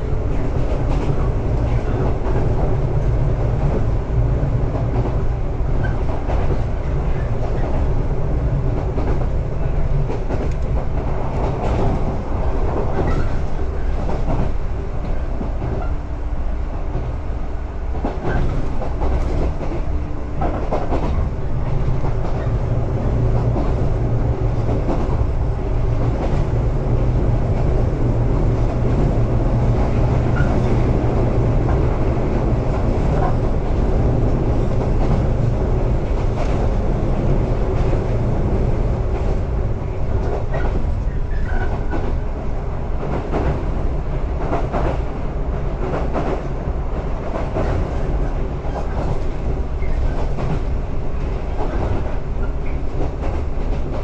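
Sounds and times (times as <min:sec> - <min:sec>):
train running gear rumble: 0:00.0 - 0:54.0.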